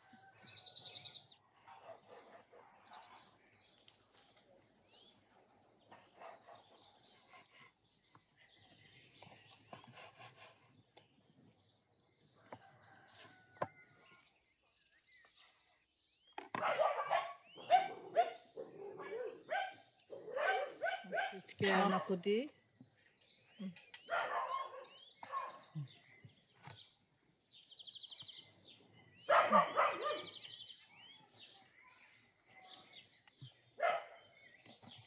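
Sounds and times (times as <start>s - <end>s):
faint birdsong: 0.0s - 35.0s.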